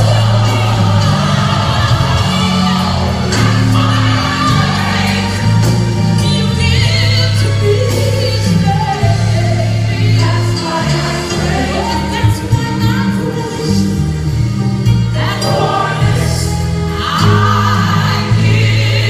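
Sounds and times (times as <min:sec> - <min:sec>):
band with steady bass line: 0:00.0 - 0:19.0
women singing gospel: 0:00.0 - 0:19.0.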